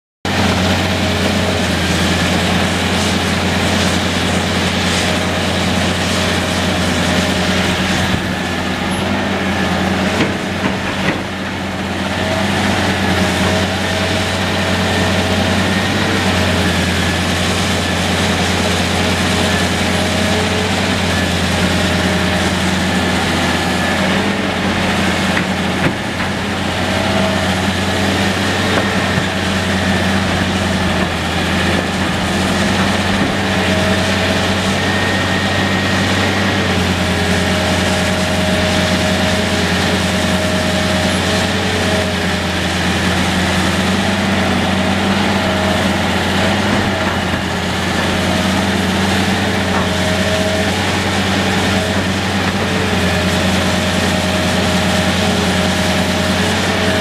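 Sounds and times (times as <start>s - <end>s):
excavator diesel engine running: 0.2s - 57.0s.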